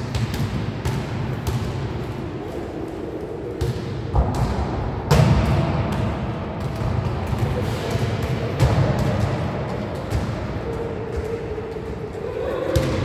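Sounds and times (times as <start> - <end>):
basketballs bouncing in hall: 0.0 - 13.0.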